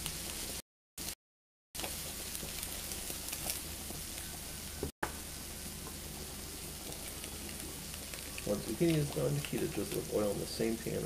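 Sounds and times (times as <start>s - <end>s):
vegetables sizzling in a frying pan: 0.0s - 0.6s, 1.8s - 11.0s.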